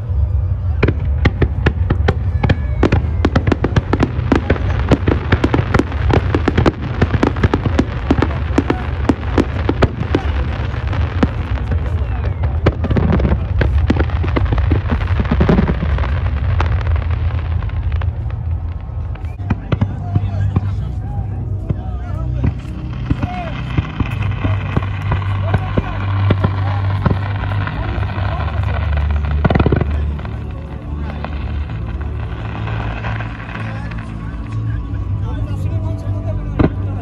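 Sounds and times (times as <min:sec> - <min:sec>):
deep rumble: 0:00.0 - 0:37.0
fireworks crackling and popping: 0:00.0 - 0:37.0.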